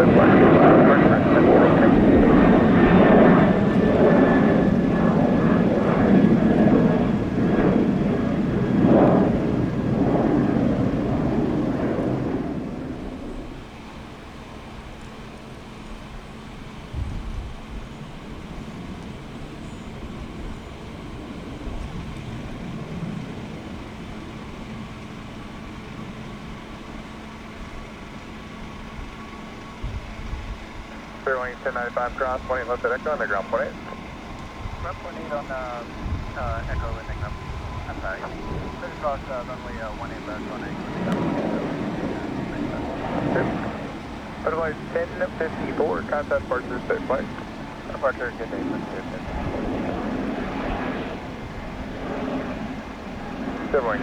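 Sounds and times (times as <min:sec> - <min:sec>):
faint high whine: 0:00.0 - 0:54.0
jet engine rush: 0:00.0 - 0:54.0.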